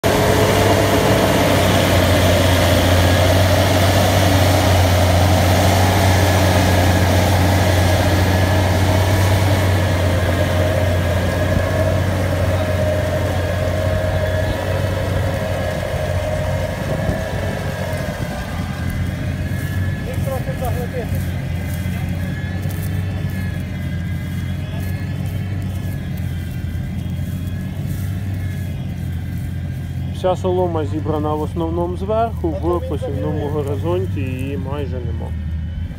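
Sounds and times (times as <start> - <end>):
seed drill working noise: 0.0 - 35.9
tractor engine under load: 0.0 - 35.9.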